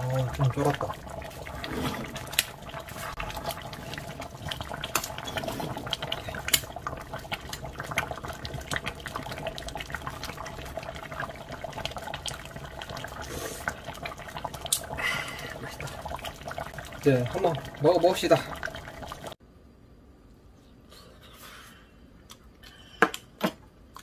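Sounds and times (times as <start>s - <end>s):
stew bubbling and popping: 0.0s - 19.4s.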